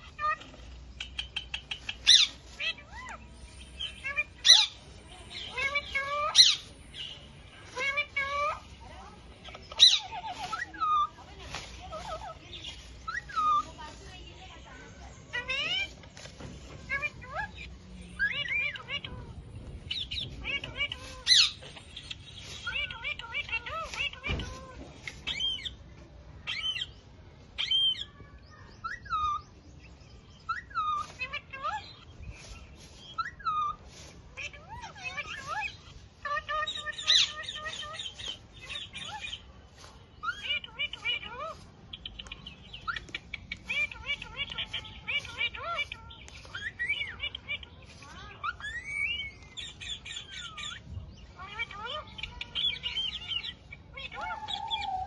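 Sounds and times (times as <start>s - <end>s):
parakeets screeching: 0.0s - 16.0s, 16.7s - 25.8s, 27.6s - 29.4s, 30.4s - 55.0s.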